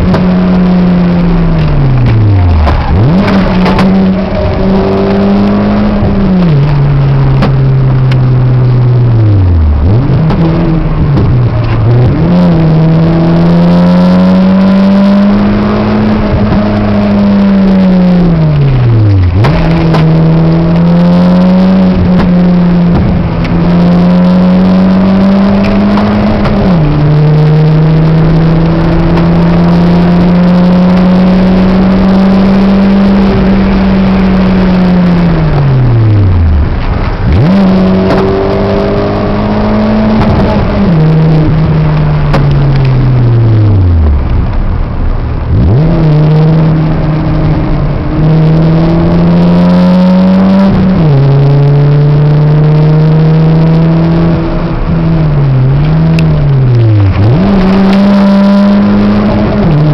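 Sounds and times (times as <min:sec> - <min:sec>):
car engine revving: 0:00.0 - 0:59.9
wind and road noise: 0:00.0 - 0:59.9.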